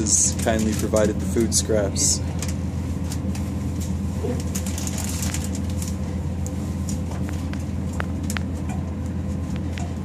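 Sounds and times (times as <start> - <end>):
ventilation hum: 0.0 - 10.0.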